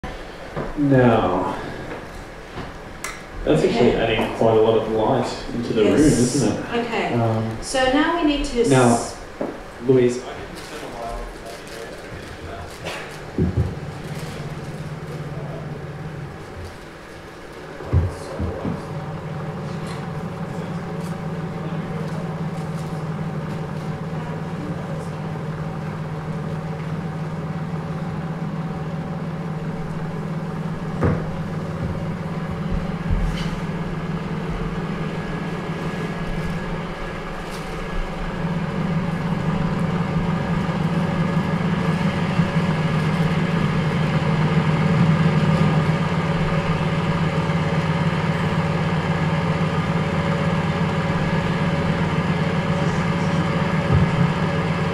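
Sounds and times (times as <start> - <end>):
steady low drone: 0.0 - 54.9.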